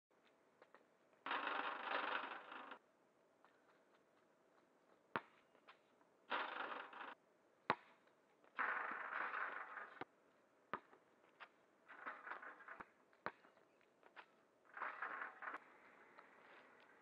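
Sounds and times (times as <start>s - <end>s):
basketball bouncing on asphalt: 0.6s - 2.8s, 5.1s - 17.0s.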